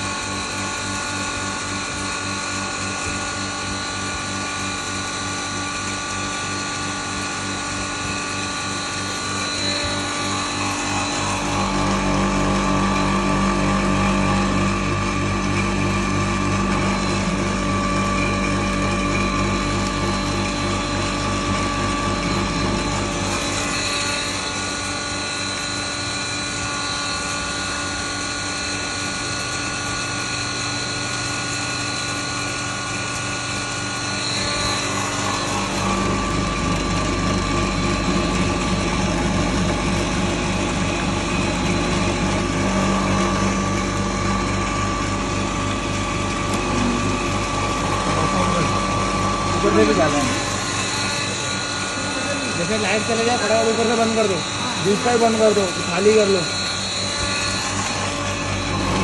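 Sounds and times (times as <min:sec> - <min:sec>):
grain grinder mechanical hum: 0:00.0 - 0:59.0.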